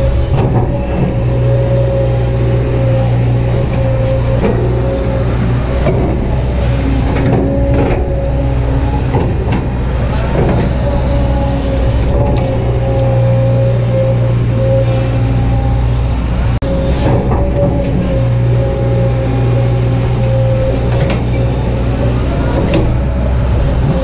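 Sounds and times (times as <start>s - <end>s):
excavator diesel engine drone: 0.0s - 24.0s
hydraulic whine: 0.0s - 24.0s.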